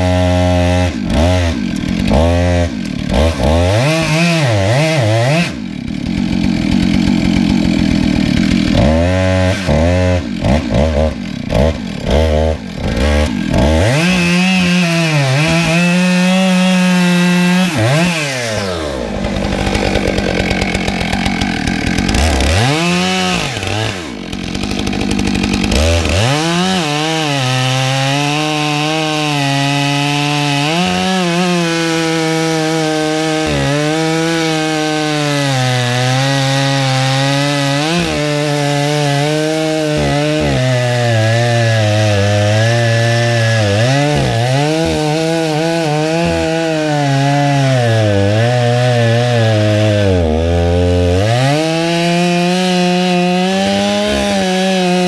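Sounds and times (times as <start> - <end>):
chainsaw cutting wood: 0.0 - 55.0
chainsaw revving: 0.0 - 55.0.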